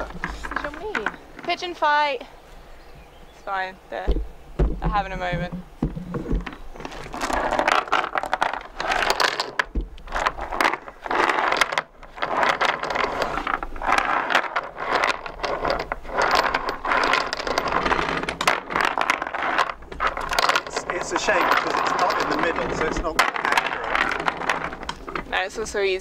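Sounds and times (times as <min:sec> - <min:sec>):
anchor chain clattering and scraping: 0:00.0 - 0:02.2, 0:04.9 - 0:26.0.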